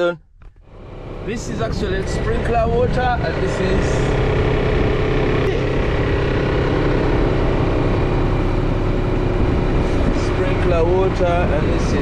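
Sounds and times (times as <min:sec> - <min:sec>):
truck engine idling: 0:00.5 - 0:12.0.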